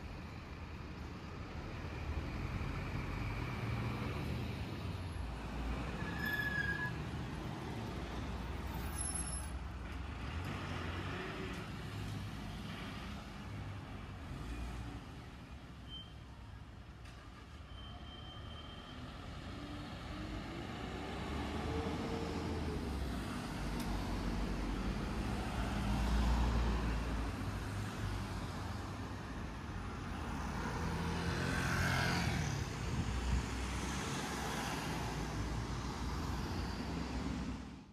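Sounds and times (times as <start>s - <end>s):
road traffic passing: 0.0s - 17.7s, 18.3s - 37.9s.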